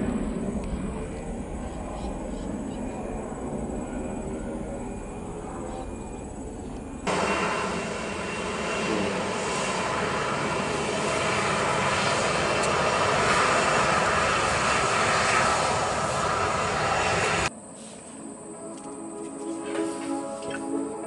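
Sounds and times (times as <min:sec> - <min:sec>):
airliner engines roaring: 0:00.0 - 0:21.0.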